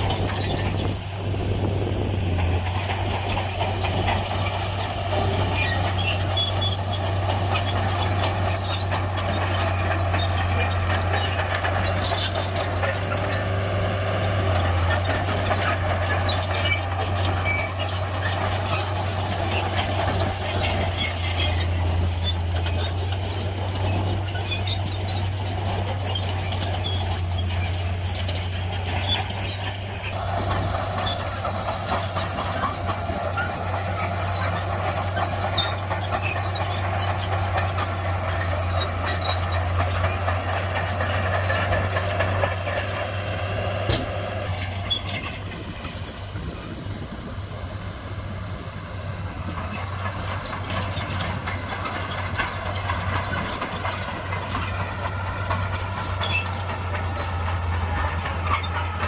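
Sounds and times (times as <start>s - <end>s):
bulldozer diesel engine drone: 0.0s - 59.0s
clanks and scrapes of tracks: 0.0s - 59.0s.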